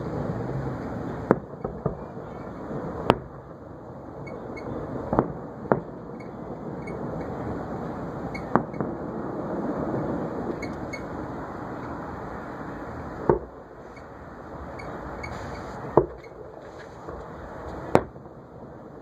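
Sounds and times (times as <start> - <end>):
distant fireworks bangs: 0.0 - 19.0.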